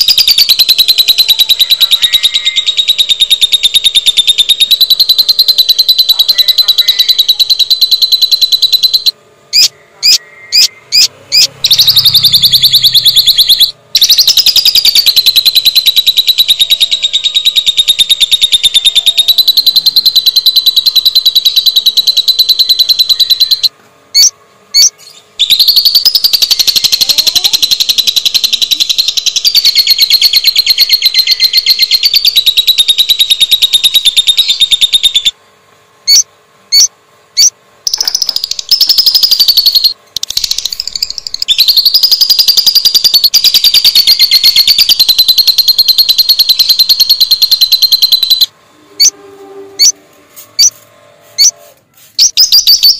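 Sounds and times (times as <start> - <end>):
bird trilling chatter: 0.0 - 35.3, 36.1 - 49.2, 51.4 - 51.6.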